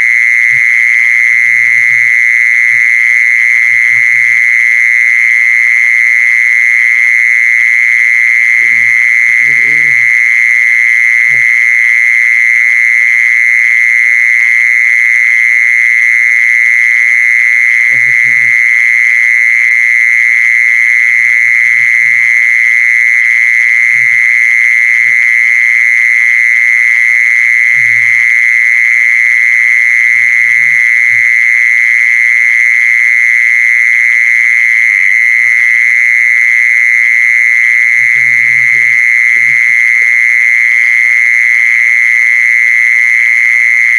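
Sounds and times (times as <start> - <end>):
mole cricket trilling: 0.0 - 43.9.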